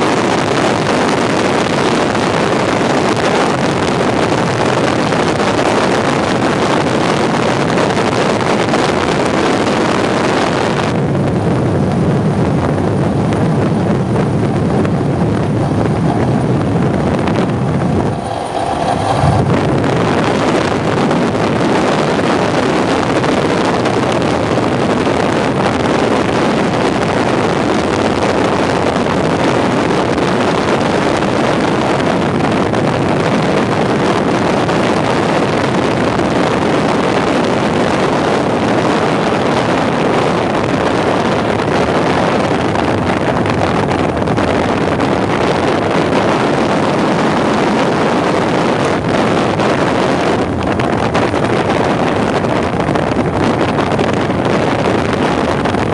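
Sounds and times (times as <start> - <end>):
two-stroke motorcycle running: 0.0 - 55.9
wind rush on microphone: 0.0 - 55.9.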